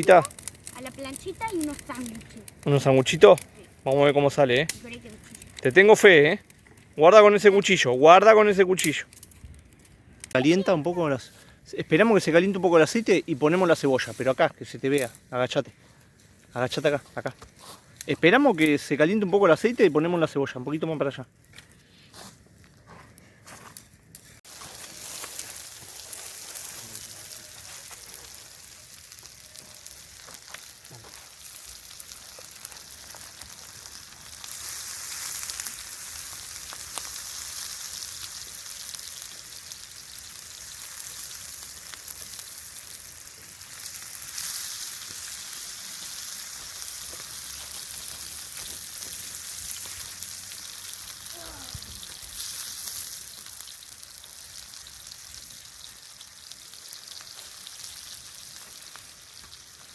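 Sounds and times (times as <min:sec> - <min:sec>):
onion sizzling in hot oil: 0:00.0 - 0:15.6, 0:16.3 - 0:21.2, 0:24.2 - 0:59.9.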